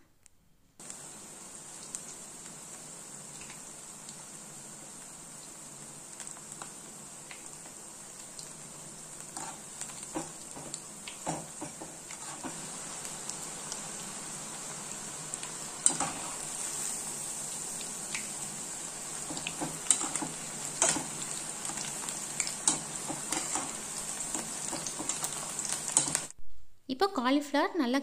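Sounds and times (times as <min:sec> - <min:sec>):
food deep-frying in hot oil: 0:00.8 - 0:26.4.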